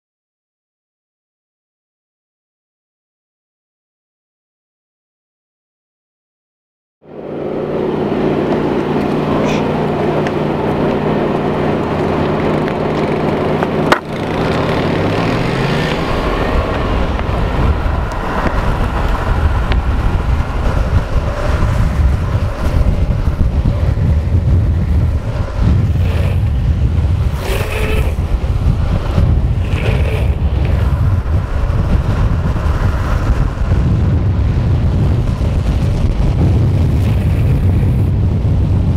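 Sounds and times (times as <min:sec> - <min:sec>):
vehicle engine running: 0:07.0 - 0:38.9
wheels rolling on asphalt: 0:07.0 - 0:38.9
wind rushing over microphone: 0:07.1 - 0:38.9.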